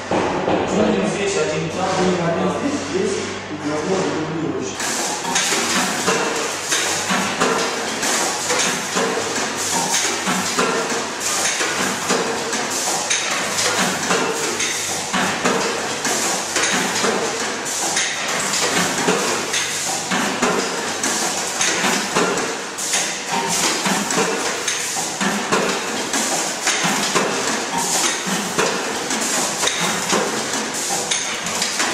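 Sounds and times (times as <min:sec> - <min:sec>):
bagging machine clattering: 0:04.8 - 0:31.9.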